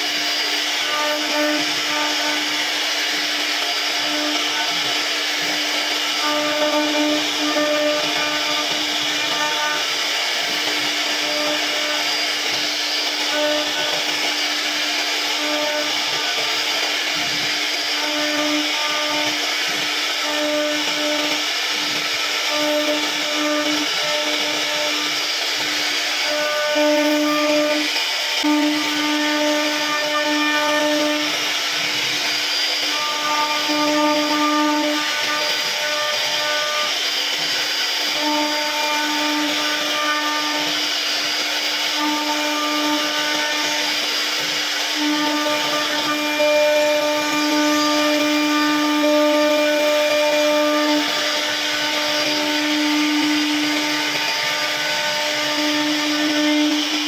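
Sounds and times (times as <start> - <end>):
bit carving wood: 0.0 - 57.0
router spindle whining: 0.0 - 57.0.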